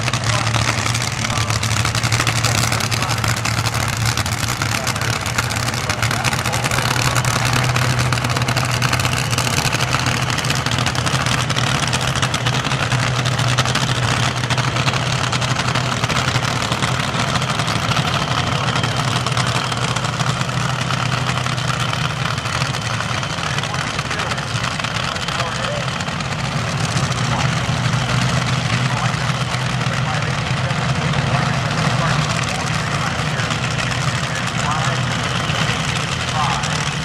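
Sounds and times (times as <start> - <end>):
dragster engine idling loudly: 0.0 - 37.0.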